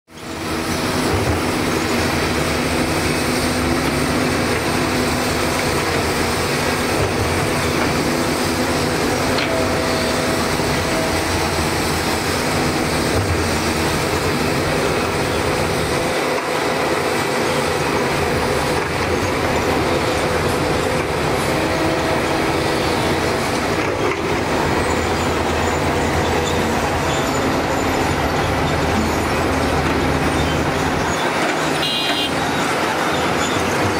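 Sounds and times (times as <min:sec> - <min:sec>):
excavator diesel engine: 0:00.1 - 0:33.9
heavy diesel machinery: 0:00.1 - 0:33.9.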